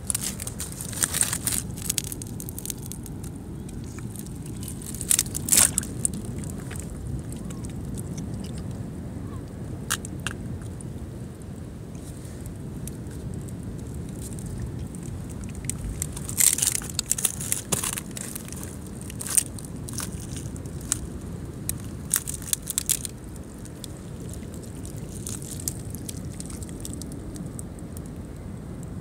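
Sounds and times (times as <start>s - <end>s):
mussel shells crunching and cracking: 0.0s - 8.8s, 9.8s - 10.8s, 12.8s - 28.2s
steady low rumble: 0.0s - 29.0s.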